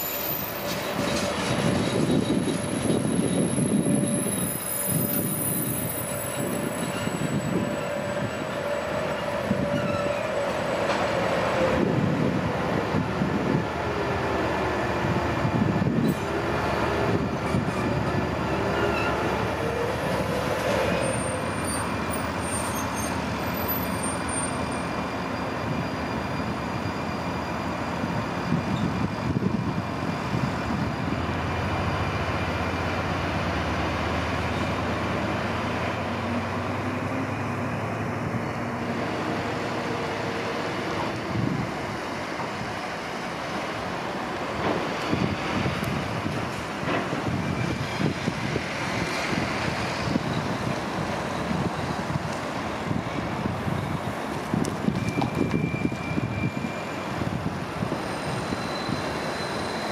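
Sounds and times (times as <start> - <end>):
diesel locomotive whine: 0.0 - 59.9
train rumble: 0.0 - 59.9.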